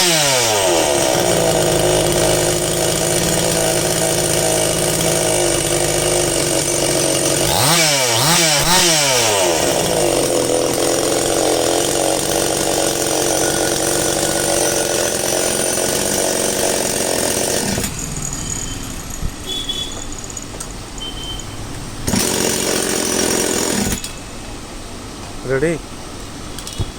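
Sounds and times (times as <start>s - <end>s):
chainsaw engine revving: 0.0s - 19.3s, 21.6s - 24.1s.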